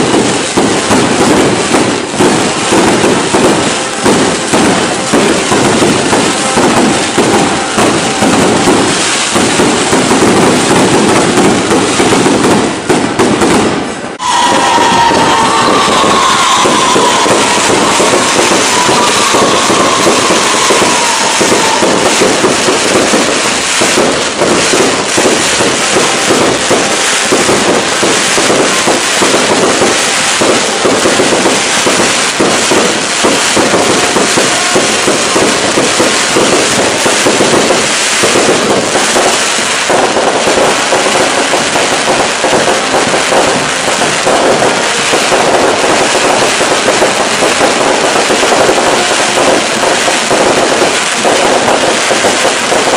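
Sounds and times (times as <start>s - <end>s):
fireworks crackling and exploding: 0.0s - 52.9s.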